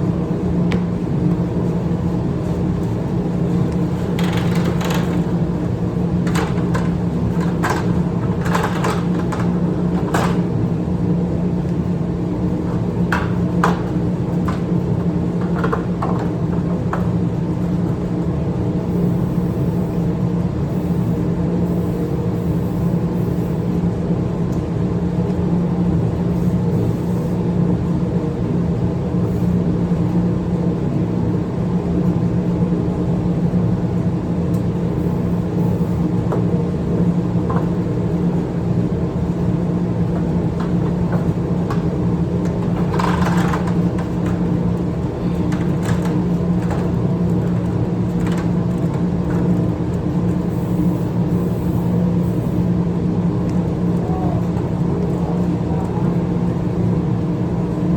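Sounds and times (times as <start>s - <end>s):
low machine hum: 0.0s - 57.9s.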